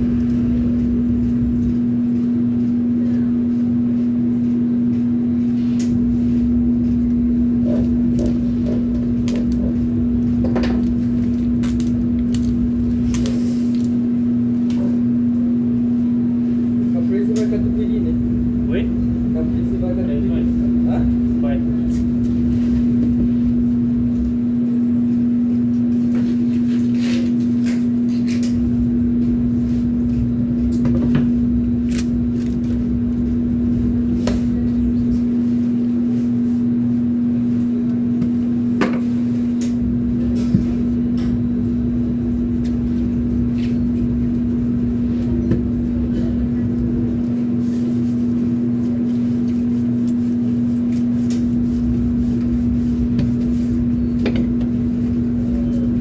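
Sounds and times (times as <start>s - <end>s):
kitchen machinery humming: 0.0s - 56.0s.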